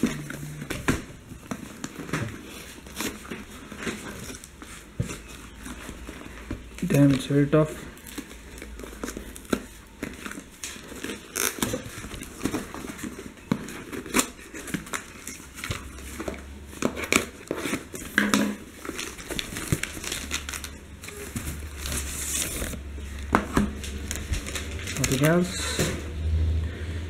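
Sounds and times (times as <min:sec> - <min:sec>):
paper crinkling and tearing: 0:00.0 - 0:26.0.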